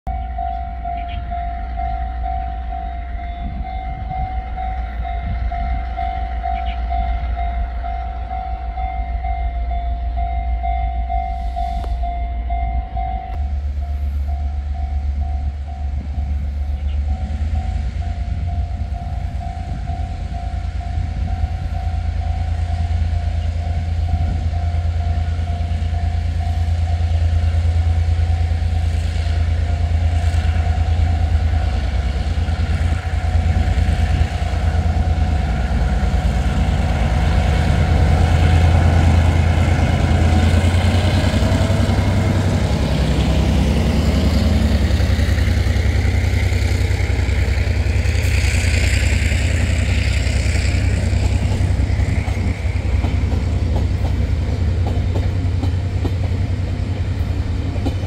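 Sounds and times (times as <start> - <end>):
level-crossing warning bell ringing: 0.1 - 55.7
locomotive engine rumbling: 0.1 - 58.0.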